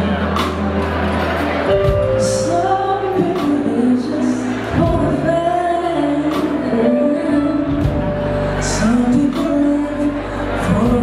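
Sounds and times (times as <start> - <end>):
live band accompaniment: 0.0 - 11.0
woman singing into a microphone: 1.8 - 11.0.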